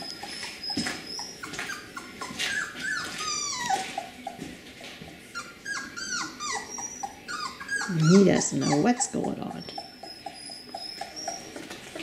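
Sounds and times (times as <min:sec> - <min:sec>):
puppy whimpering and squealing: 0:00.0 - 0:04.5, 0:05.2 - 0:12.0.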